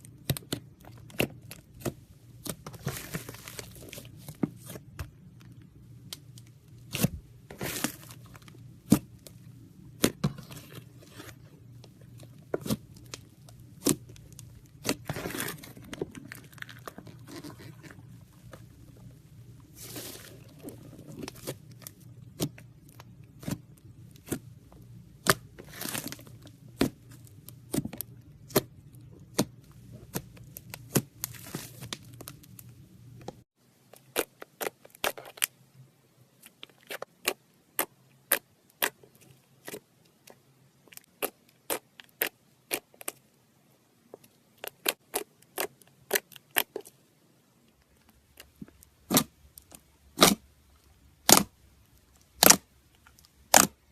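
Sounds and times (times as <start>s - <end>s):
low background hum: 0.0s - 53.9s.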